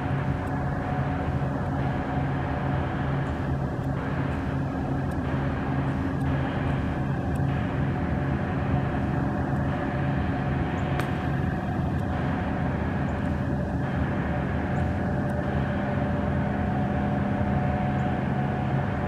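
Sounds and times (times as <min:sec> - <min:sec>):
diesel engines droning: 0:00.0 - 0:19.0.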